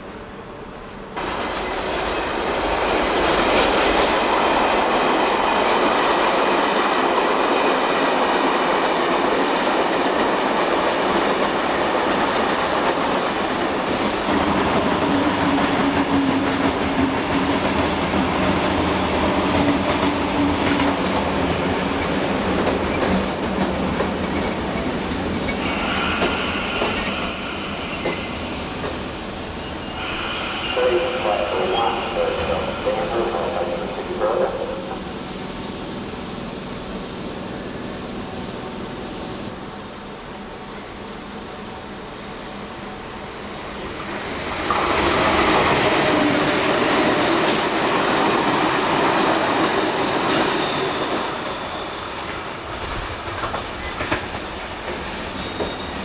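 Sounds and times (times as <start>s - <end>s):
train wheels on rails: 1.2s - 39.7s, 40.6s - 56.0s.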